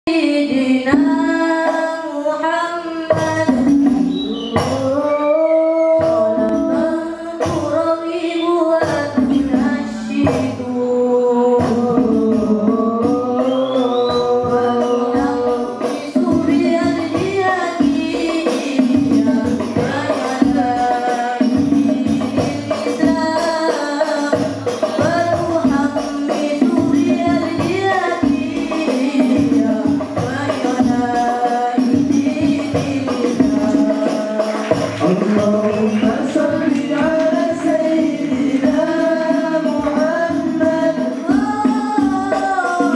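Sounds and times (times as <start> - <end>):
young man singing into microphone: 0.7 - 42.9
frame drums playing rhythm: 3.1 - 42.9.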